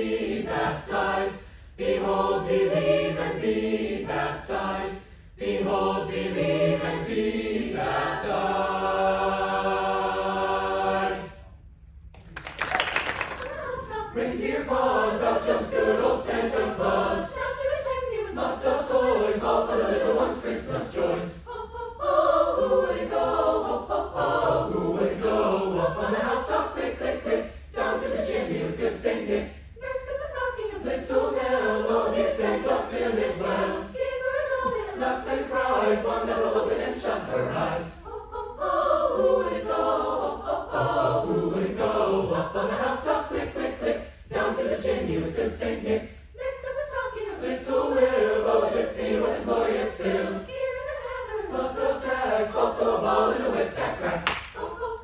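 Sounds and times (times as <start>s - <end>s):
choir singing: 0.0s - 11.5s, 13.5s - 55.0s.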